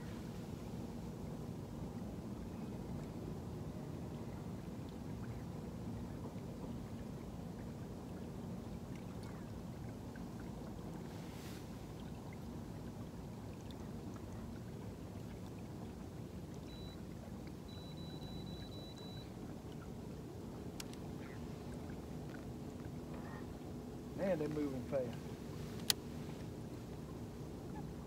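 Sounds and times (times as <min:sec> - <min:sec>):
faint motor hum: 0:00.0 - 0:28.0
water lapping along boat hull: 0:00.0 - 0:28.0.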